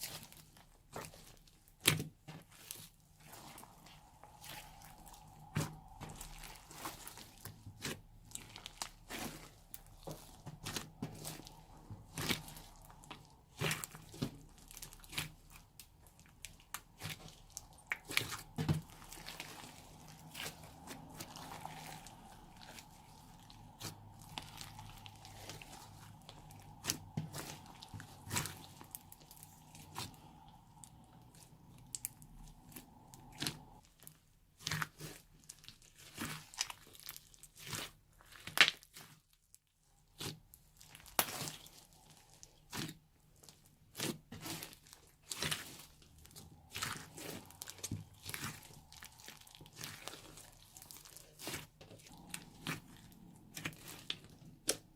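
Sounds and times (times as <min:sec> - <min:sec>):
slime crackles and sticky pops: 0:00.0 - 0:54.9
slime squished by hand: 0:00.0 - 0:54.9.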